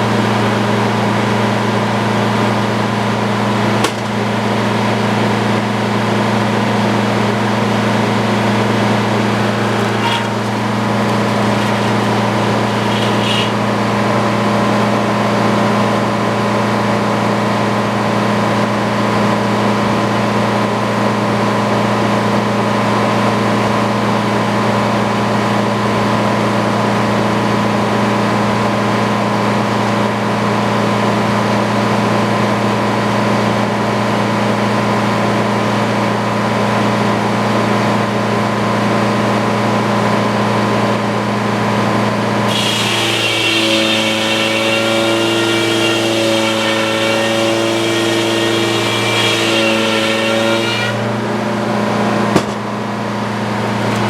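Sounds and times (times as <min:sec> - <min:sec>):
sawmill engine humming: 0:00.0 - 0:54.0.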